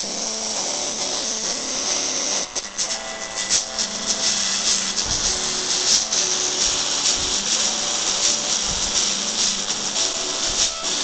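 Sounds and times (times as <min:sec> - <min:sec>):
music through speaker: 0:00.0 - 0:11.0.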